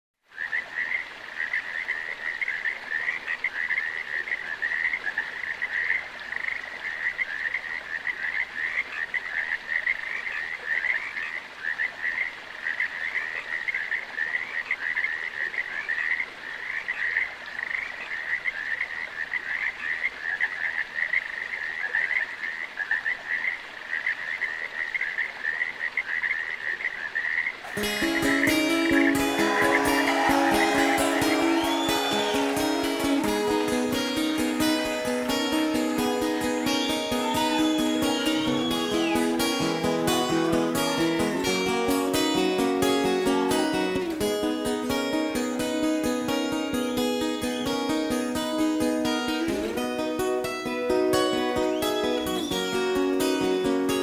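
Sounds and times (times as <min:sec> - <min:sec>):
chorus of frogs trilling: 0:00.3 - 0:44.1.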